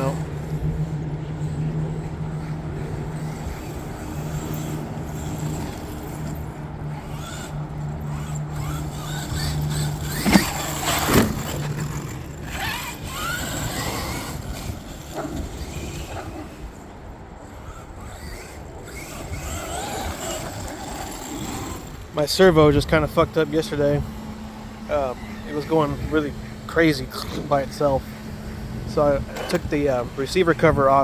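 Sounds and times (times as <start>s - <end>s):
electric toy truck motor humming: 0.0s - 31.0s.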